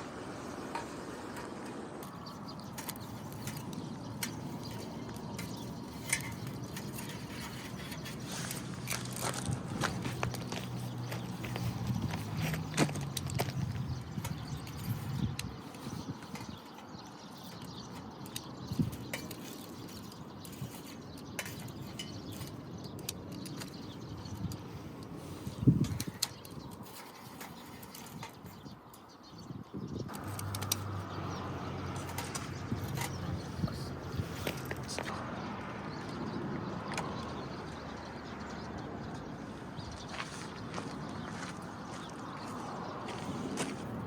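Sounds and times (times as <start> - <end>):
birds chirping faintly: 0.0 - 44.0.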